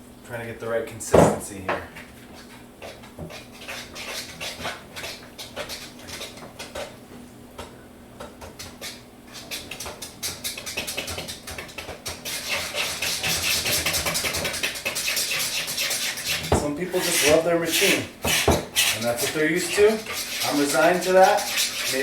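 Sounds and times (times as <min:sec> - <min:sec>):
utensil scraping a bowl: 0:02.0 - 0:07.0, 0:08.4 - 0:22.0.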